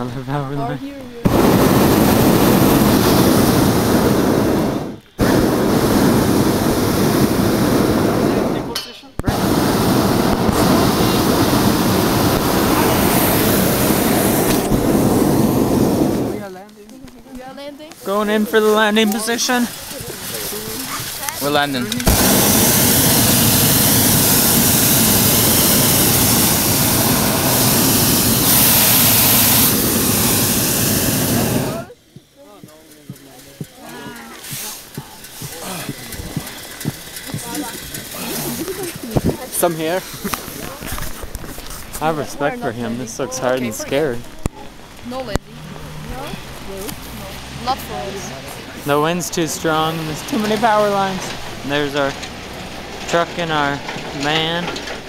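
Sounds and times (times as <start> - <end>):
propane burner firing: 0.0 - 16.6, 17.9 - 55.0.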